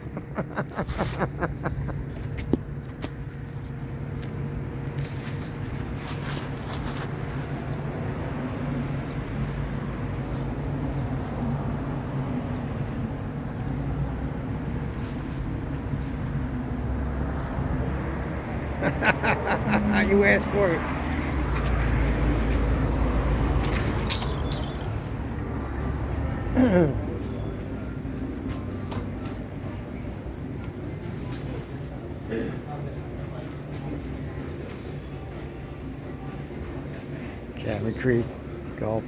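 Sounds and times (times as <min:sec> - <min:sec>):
low rumble of motor vehicles: 0:00.0 - 0:39.0.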